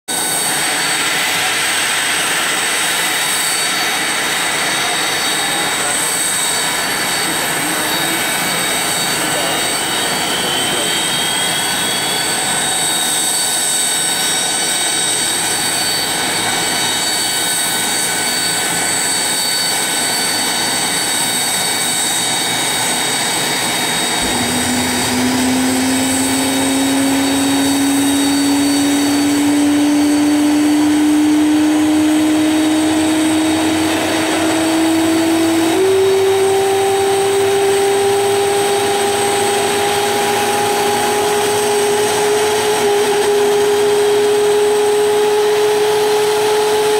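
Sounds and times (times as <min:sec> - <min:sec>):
jet engine spooling up: 0:00.1 - 0:46.9
jet engine whine: 0:00.1 - 0:46.9.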